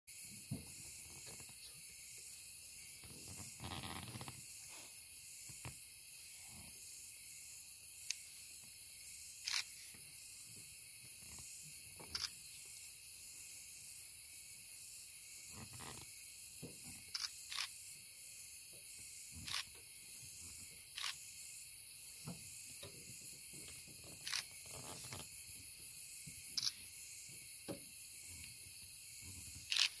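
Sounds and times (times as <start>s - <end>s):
high-pitched insect chirp: 0.1s - 30.0s
insect high hiss: 0.1s - 30.0s.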